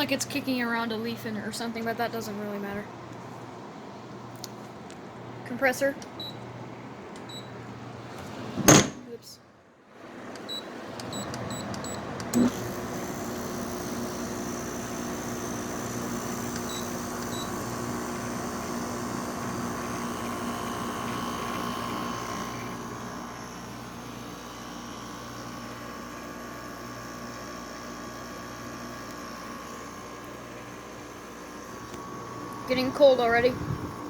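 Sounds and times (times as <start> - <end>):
window air conditioner humming: 0.0 - 34.0.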